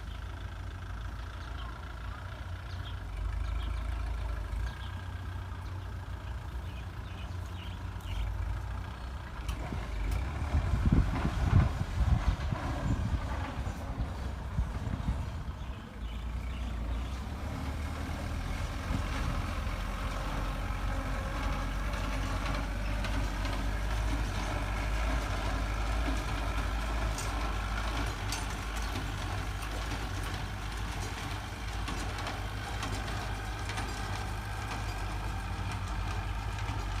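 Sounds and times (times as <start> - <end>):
baler engine drone: 0.0 - 37.0.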